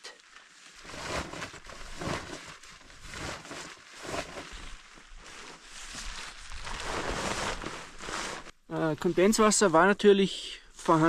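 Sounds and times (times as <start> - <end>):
tent fabric rustling and crinkling: 0.0 - 10.0, 10.7 - 11.0.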